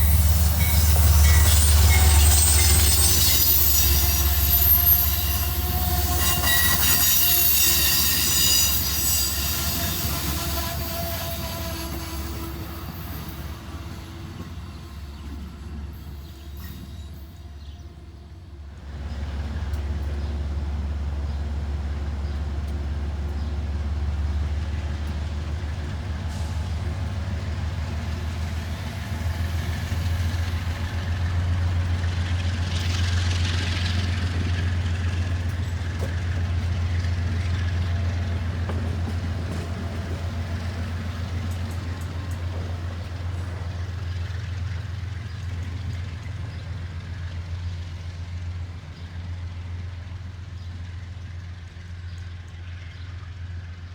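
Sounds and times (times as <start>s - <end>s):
diesel locomotive engine drone: 0.0s - 53.9s.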